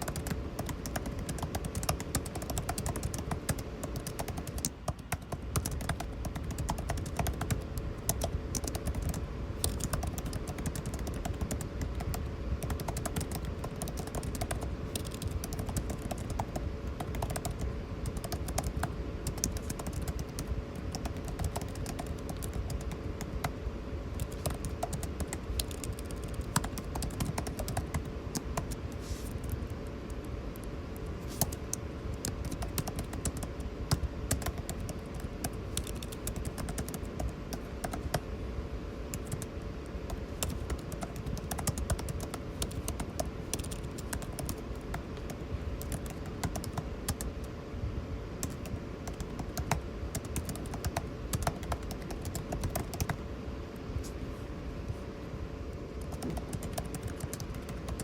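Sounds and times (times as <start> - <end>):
computer keyboard typing: 0.0 - 38.2, 39.1 - 47.4, 48.4 - 53.2, 56.0 - 58.0
air conditioning hum: 0.0 - 58.0.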